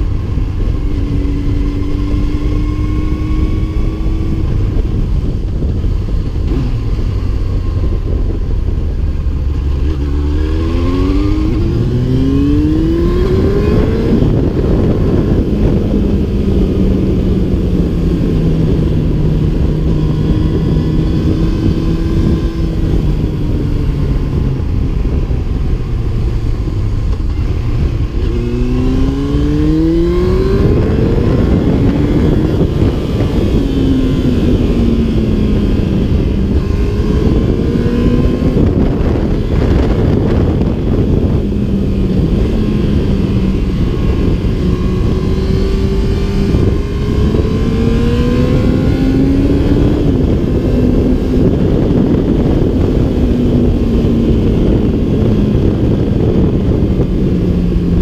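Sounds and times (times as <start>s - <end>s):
motorcycle engine revving: 0.0s - 58.0s
wind buffeting microphone: 0.0s - 58.0s.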